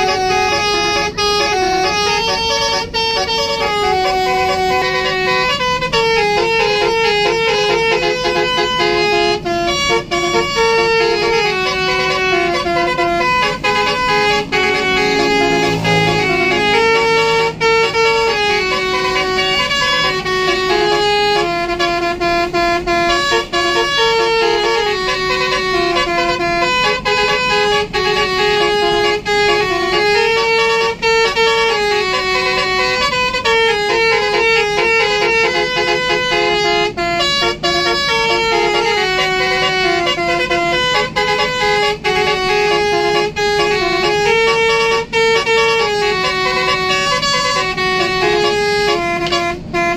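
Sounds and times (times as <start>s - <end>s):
bus air horns playing a tune: 0.0s - 49.9s.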